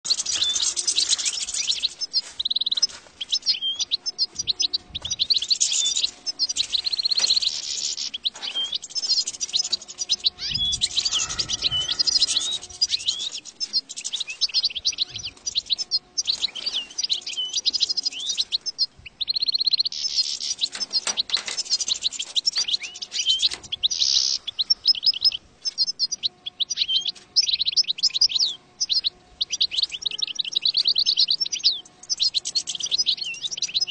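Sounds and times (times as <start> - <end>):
finch twittering song: 0.0 - 33.9.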